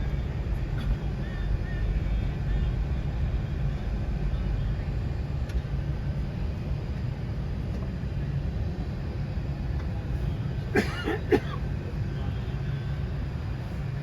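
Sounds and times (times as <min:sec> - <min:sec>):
airliner low drone: 0:00.0 - 0:14.0.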